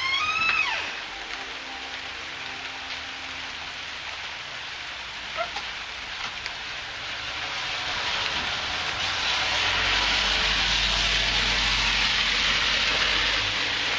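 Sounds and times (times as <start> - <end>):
heavy rain: 0.0 - 13.9.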